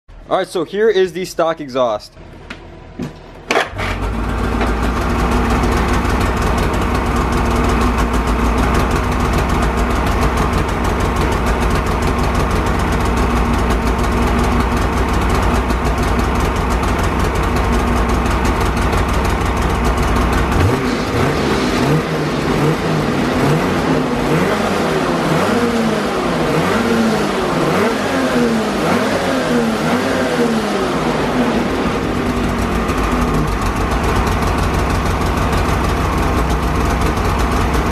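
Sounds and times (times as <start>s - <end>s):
snowmobile engine idling and revving: 3.5s - 37.9s.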